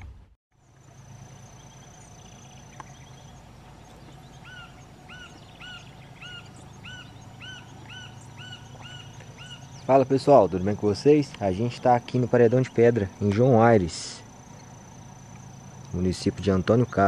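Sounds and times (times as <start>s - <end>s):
bird calling: 0.6s - 17.0s.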